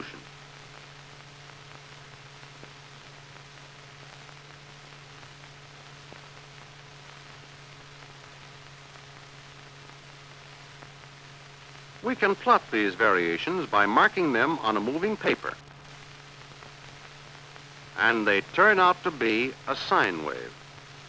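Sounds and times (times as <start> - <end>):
film soundtrack hiss: 0.0 - 21.0.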